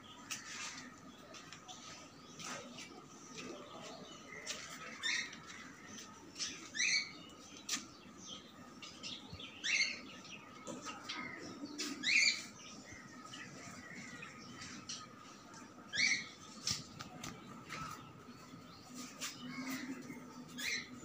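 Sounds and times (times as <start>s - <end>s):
cage birds chirping and chattering: 0.0s - 21.0s.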